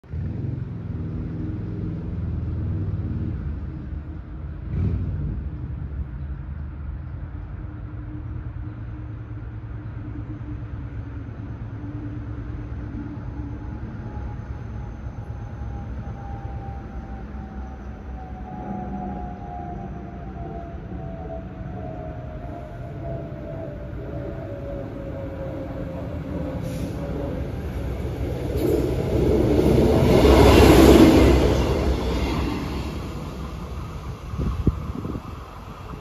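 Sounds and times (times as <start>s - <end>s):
distant vehicle engine rumbling: 0.0s - 36.0s.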